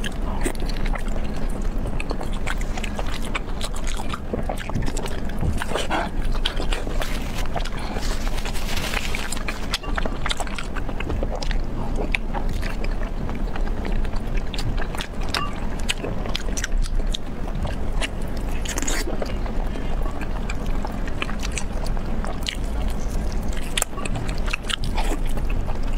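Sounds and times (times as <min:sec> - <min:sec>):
chewing and biting: 0:00.0 - 0:25.9
steady low hum: 0:00.0 - 0:25.9.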